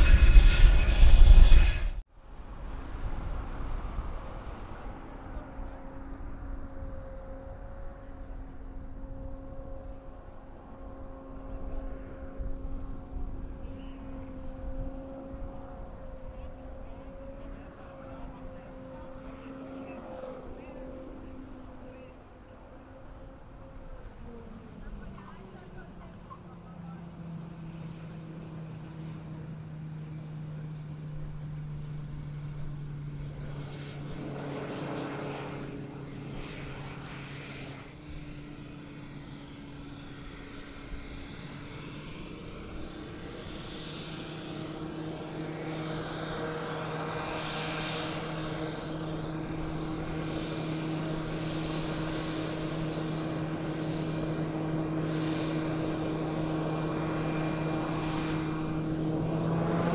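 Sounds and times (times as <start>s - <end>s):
aircraft fan droning and whining: 0.0s - 59.9s.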